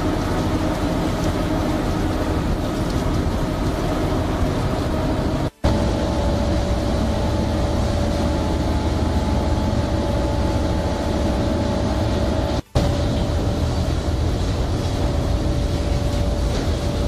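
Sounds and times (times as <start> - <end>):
boat engine droning with whine: 0.0 - 17.0.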